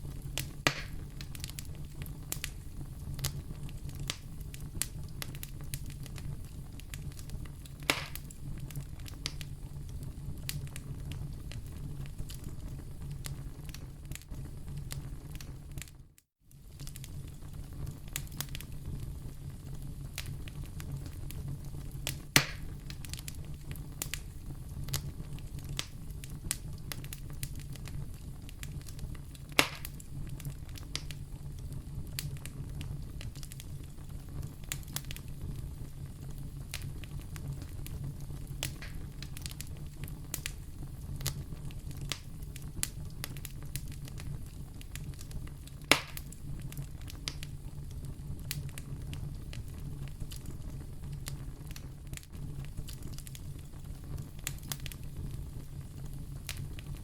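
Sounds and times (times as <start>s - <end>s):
loud fire pops: 0.0s - 15.9s, 16.5s - 57.0s
fire rumbling and crackling: 0.0s - 57.0s.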